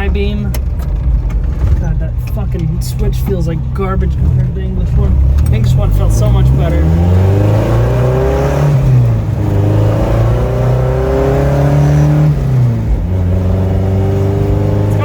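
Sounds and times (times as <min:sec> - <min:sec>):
car engine accelerating through gears: 0:00.0 - 0:15.0.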